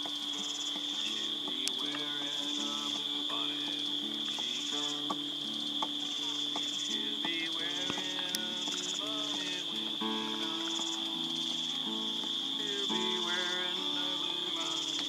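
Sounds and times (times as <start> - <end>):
campfire pops: 0.0 - 15.0
crickets chirping: 0.0 - 15.0
insect pulsing trill: 0.0 - 15.0.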